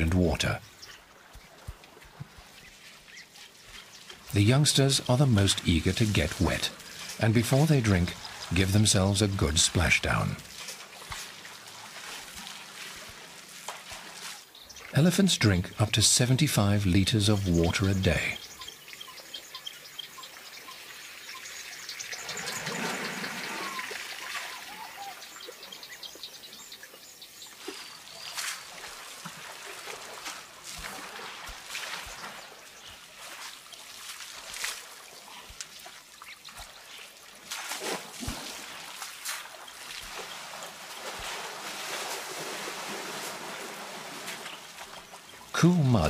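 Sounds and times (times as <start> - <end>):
sharp splashes and drips: 0.0 - 15.6, 17.4 - 46.0
water trickling and sloshing: 0.0 - 16.0, 16.9 - 46.0
rush of water: 0.0 - 19.0, 19.7 - 46.0.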